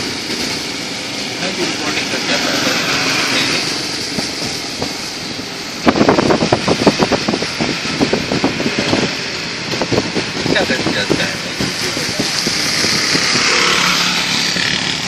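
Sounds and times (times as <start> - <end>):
tyres on wet road rushing: 0.0 - 15.0.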